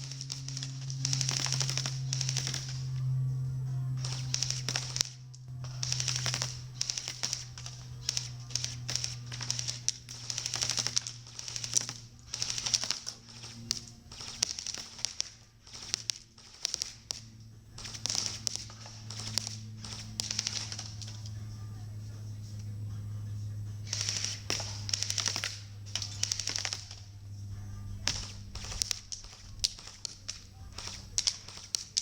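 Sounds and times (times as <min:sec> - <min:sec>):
airsoft guns firing bursts: 0:00.0 - 0:22.2, 0:23.5 - 0:32.0
steady low hum: 0:00.0 - 0:32.0.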